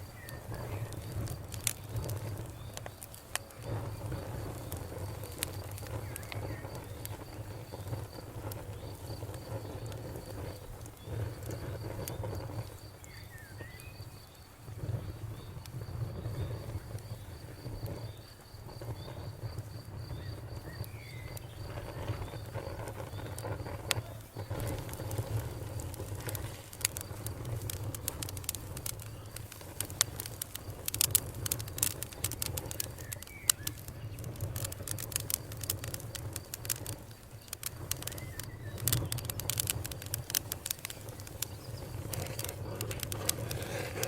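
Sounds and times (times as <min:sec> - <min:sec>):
campfire crackling and popping: 0:00.0 - 0:44.0
cricket chirping: 0:00.0 - 0:44.0.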